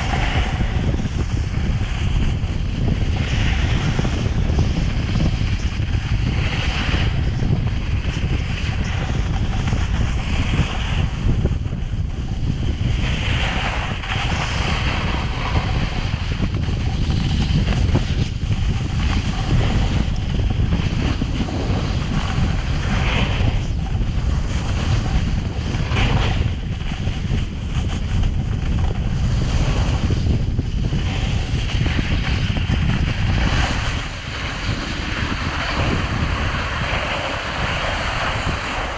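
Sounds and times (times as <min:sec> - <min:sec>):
snowboard scraping over snow: 0:00.0 - 0:38.9
wind buffeting microphone: 0:00.0 - 0:38.9.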